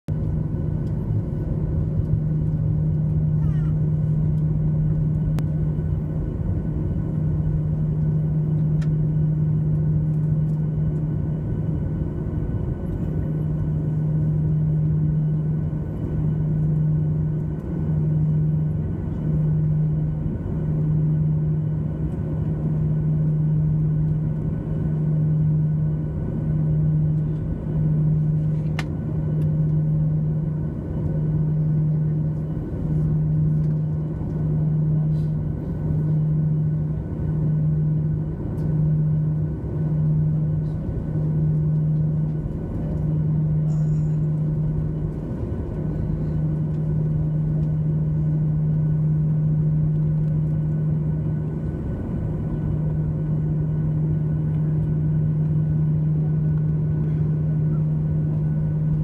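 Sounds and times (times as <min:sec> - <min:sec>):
airplane cabin drone: 0:00.1 - 0:59.0
throbbing rumble: 0:00.1 - 0:59.0.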